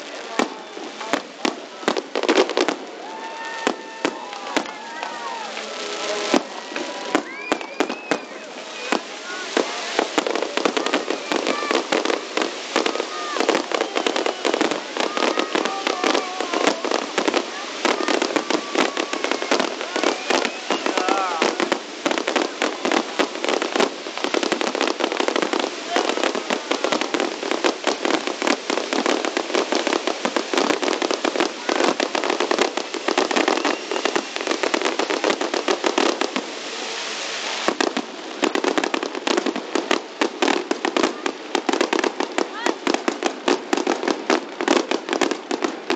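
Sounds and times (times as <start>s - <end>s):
fireworks bangs and crackles: 0.0s - 45.9s.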